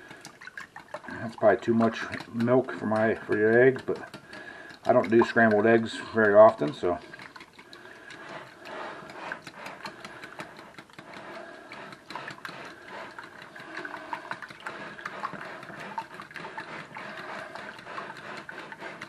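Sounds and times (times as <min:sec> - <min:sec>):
whisk beating in glass bowl: 0:00.0 - 0:19.0.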